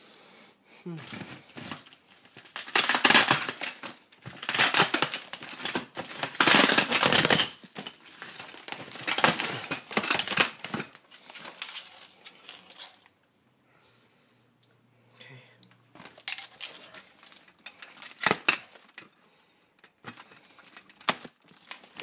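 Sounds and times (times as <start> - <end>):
plastic wrap crinkling: 0.9 - 13.2, 15.9 - 19.2, 19.8 - 22.0.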